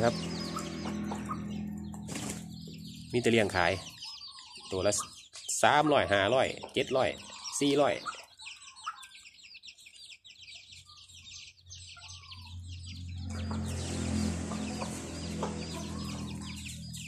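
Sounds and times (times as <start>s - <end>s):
chicks cheeping: 0.0s - 17.0s.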